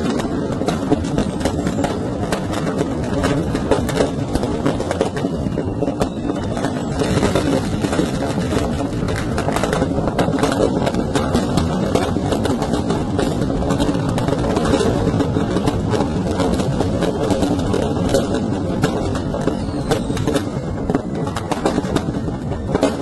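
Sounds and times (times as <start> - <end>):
firecrackers crackling and popping: 0.0 - 23.0.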